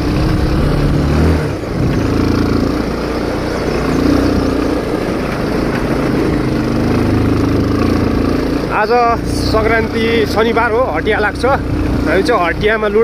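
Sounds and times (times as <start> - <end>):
motorcycle engine running: 0.0 - 13.0
rough riding noise: 0.0 - 13.0.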